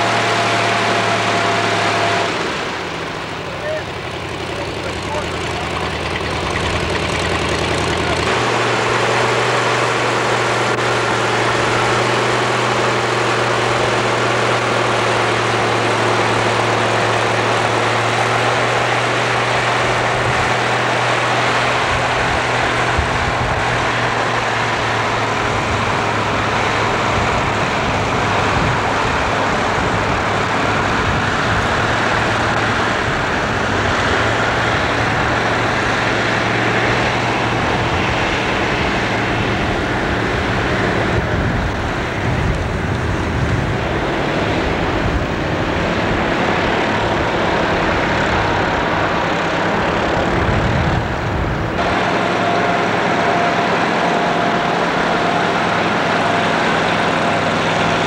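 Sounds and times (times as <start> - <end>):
dense rushing noise: 0.0 - 58.0
vehicle engine running: 0.0 - 58.0.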